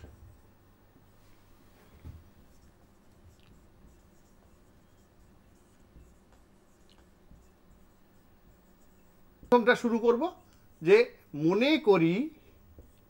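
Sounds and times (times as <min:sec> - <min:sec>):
marker writing on whiteboard: 0:02.4 - 0:13.0.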